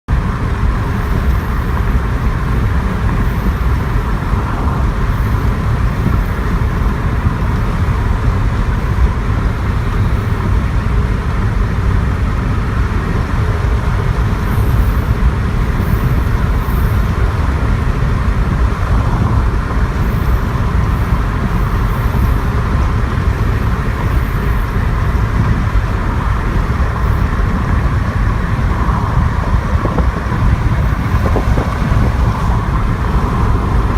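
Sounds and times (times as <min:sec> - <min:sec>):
vehicle driving through crops: 0:00.1 - 0:33.9
constant hiss: 0:00.2 - 0:33.9.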